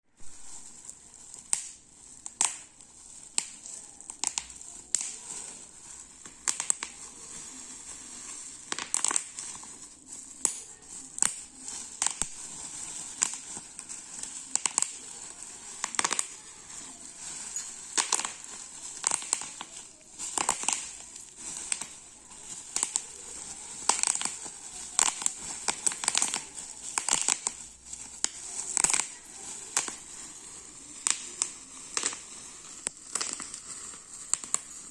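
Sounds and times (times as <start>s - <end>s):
bubble wrap popping: 0.1s - 34.9s
plastic crinkling: 0.1s - 34.9s.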